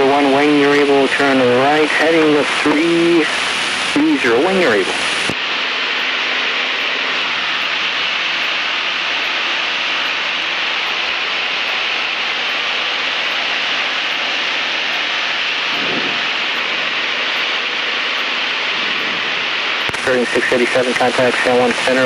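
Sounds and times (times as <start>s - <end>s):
aircraft engine and propeller drone: 0.0s - 22.0s.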